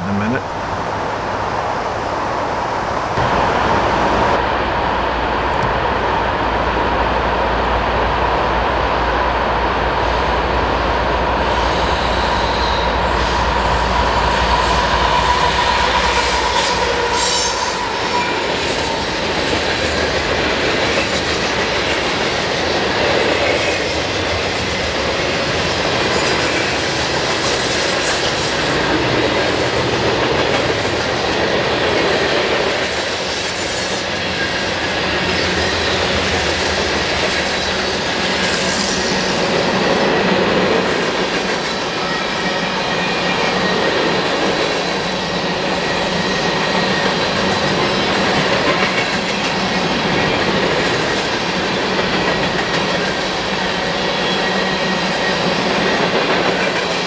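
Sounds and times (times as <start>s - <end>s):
train wheels rushing on rails: 0.3s - 57.0s.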